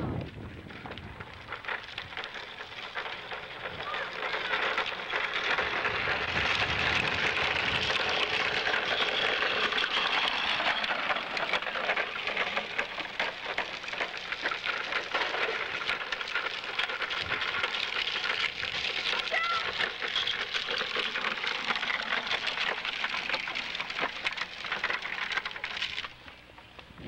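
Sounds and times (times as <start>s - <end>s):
plastic wheels rolling on concrete: 0.0s - 27.0s.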